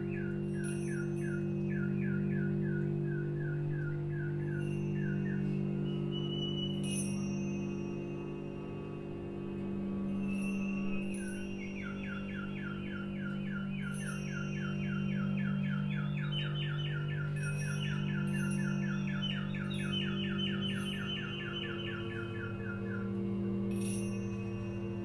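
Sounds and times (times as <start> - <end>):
steady low drone: 0.0 - 25.0.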